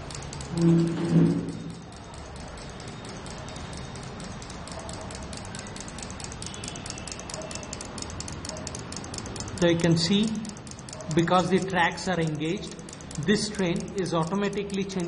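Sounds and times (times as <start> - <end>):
model trains ticking: 0.0 - 15.0.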